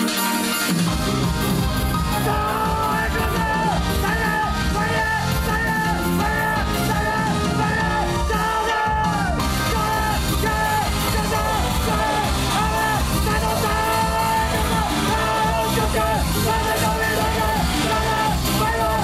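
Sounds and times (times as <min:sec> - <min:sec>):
beat-driven backing music: 0:00.0 - 0:19.0
group singing live: 0:02.2 - 0:19.0.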